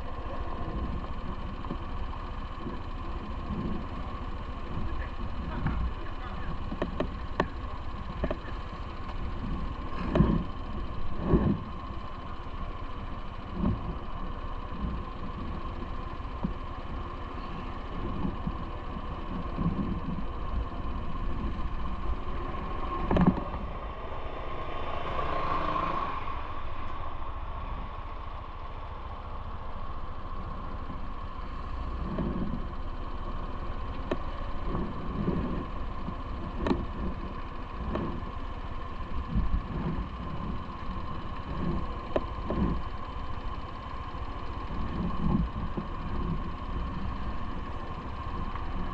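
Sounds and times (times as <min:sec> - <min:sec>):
vehicle and road rumble: 0:00.0 - 0:48.9.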